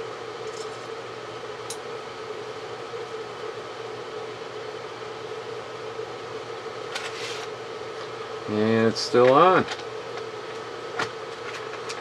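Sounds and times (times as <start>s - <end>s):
faint steady whine: 0.0s - 12.0s
low hum and hiss: 0.0s - 12.0s.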